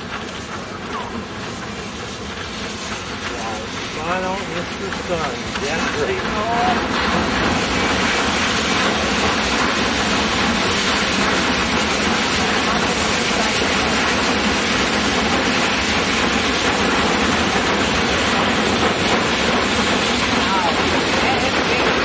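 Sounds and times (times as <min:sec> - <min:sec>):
train rolling over steel bridge: 0:00.0 - 0:22.0.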